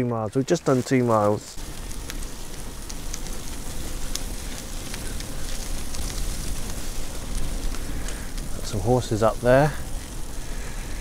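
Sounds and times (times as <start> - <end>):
bicycle tyres rolling on gravel: 0.0 - 11.0.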